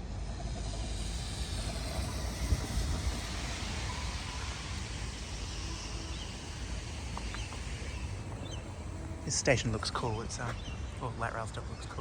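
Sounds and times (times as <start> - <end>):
low street rumble and hiss: 0.0 - 12.0.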